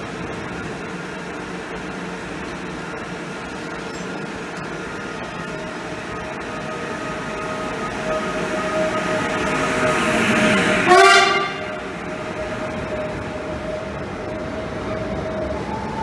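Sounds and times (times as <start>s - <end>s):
electric train drive whine: 0.0s - 16.0s.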